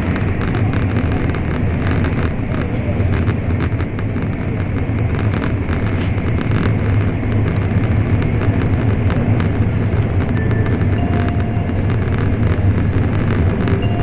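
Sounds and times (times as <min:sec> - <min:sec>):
faint irregular ticks: 0:00.0 - 0:14.0
train cabin rumble: 0:00.0 - 0:14.0.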